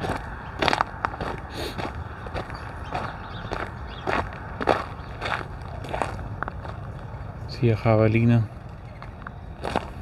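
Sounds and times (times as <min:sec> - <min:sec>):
footsteps crunching on gravel: 0:00.0 - 0:07.1, 0:08.9 - 0:10.0.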